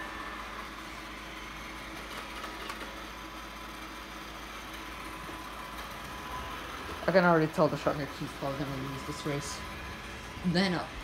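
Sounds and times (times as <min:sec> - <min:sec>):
robot vacuum humming: 0:00.0 - 0:11.0.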